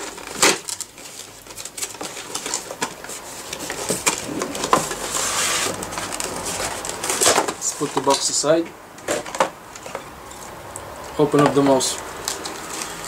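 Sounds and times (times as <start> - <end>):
packaging rustling and scraping: 0.0 - 10.6, 11.3 - 13.0.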